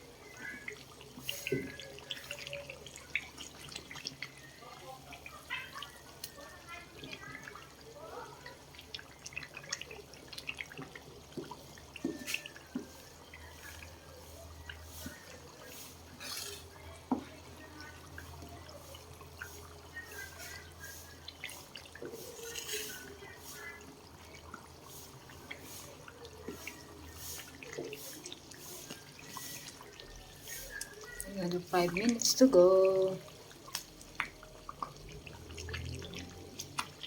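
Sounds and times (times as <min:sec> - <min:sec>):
oil sizzling in a pan: 0:00.0 - 0:37.0.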